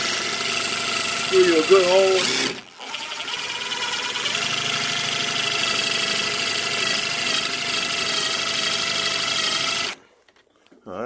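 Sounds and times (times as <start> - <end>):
power drill motor whine: 0.0 - 10.0.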